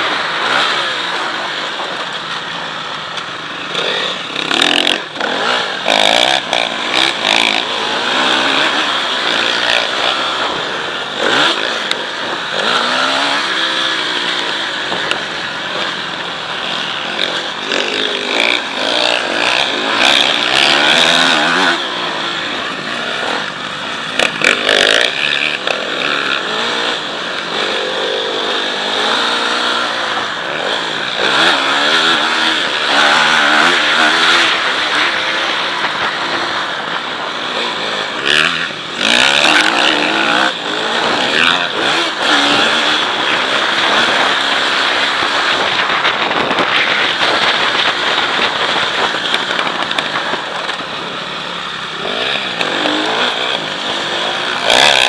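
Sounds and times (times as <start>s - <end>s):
motocross bike engine revving: 0.0s - 55.0s
steady rushing noise: 0.0s - 55.0s.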